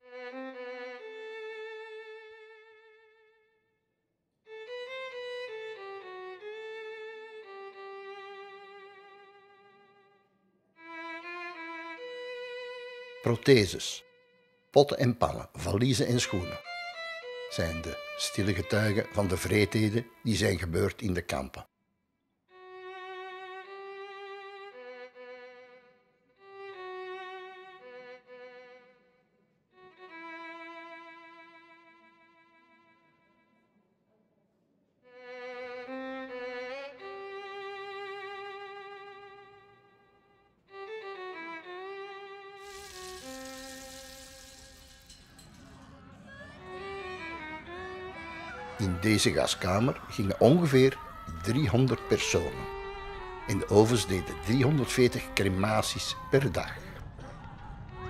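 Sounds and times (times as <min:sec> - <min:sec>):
solo violin slow melody: 0:00.0 - 0:03.6, 0:04.5 - 0:14.7, 0:15.8 - 0:20.4, 0:22.5 - 0:33.5, 0:35.0 - 0:45.5, 0:46.4 - 0:57.0.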